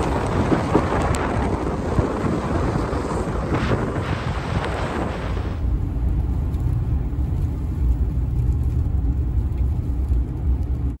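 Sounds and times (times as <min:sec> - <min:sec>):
road rumble: 0:00.0 - 0:11.0.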